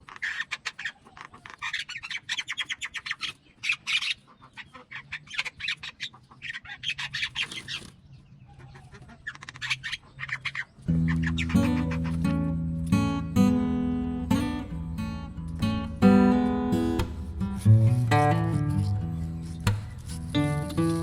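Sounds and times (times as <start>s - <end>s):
mynah bird chattering: 0.0s - 21.0s.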